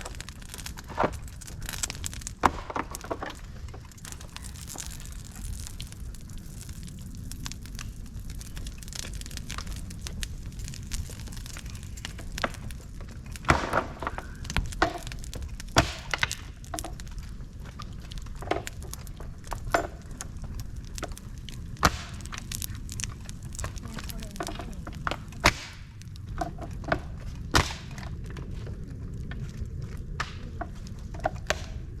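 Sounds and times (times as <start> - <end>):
bamboo and twigs crackling in fire: 0.0 - 32.0
low background rumble: 0.0 - 32.0.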